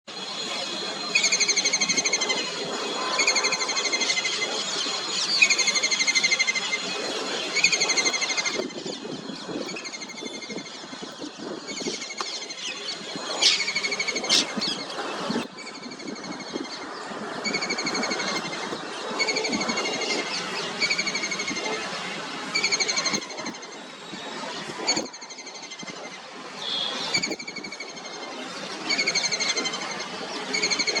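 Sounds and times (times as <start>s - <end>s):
steady background noise: 0.1s - 31.0s.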